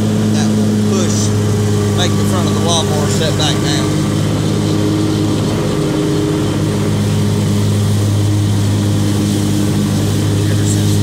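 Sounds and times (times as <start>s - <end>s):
lawn mower engine droning: 0.0s - 11.0s.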